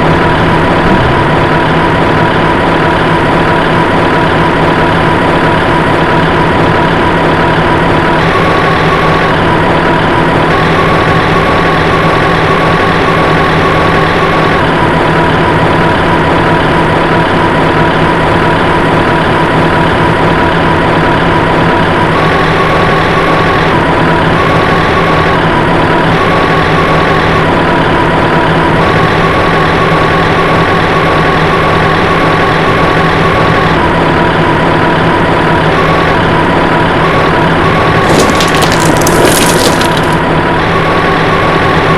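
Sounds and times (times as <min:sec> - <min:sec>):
heavy engine running: 0:00.0 - 0:41.9.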